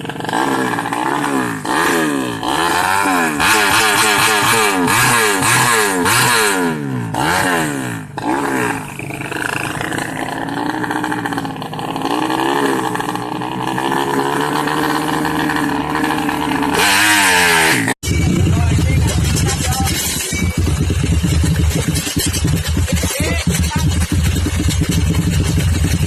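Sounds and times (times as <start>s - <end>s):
motorcycle engine revving and idling: 0.0s - 26.0s.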